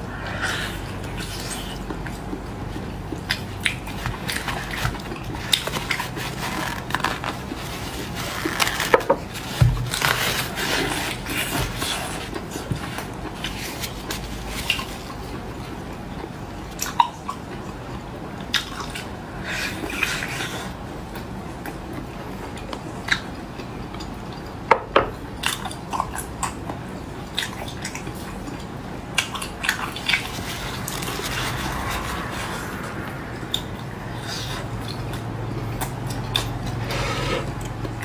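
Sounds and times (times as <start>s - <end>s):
wet chewing sounds: 0.0s - 38.0s.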